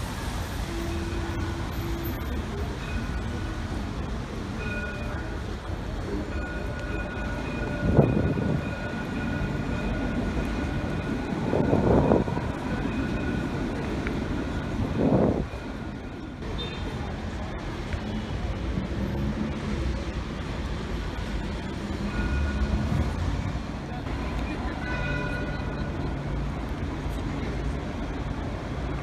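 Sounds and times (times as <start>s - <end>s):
electric tram high whine: 0.0s - 29.0s.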